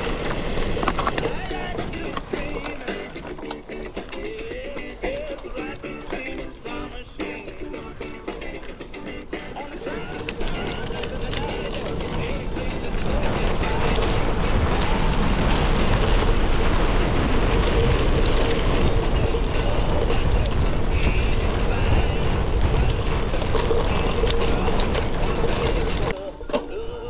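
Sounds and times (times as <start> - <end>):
bike tyres rumbling on gravel: 0.0 - 27.0
wind noise on microphone: 0.0 - 27.0.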